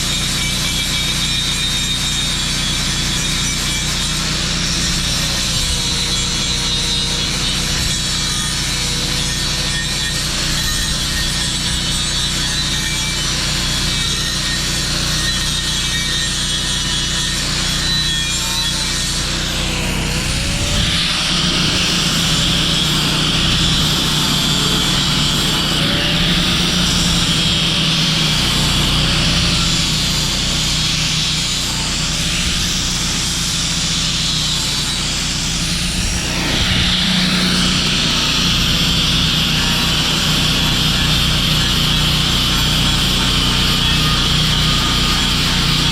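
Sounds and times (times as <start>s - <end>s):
engine-driven welder drone: 0.0s - 45.9s.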